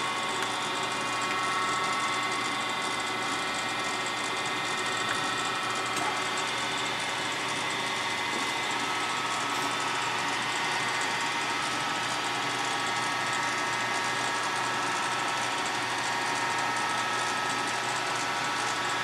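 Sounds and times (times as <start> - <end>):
grinding machine whine: 0.0 - 19.0
motor hum: 0.0 - 19.0.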